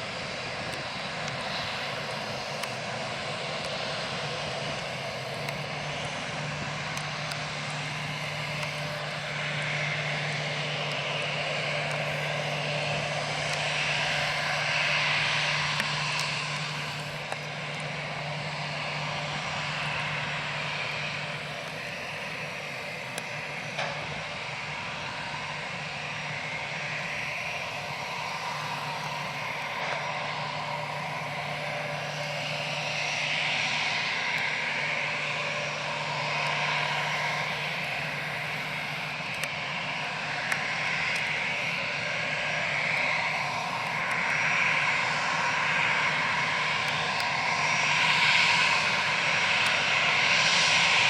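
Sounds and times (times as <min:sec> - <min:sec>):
jet engine roar: 0:00.0 - 0:51.0.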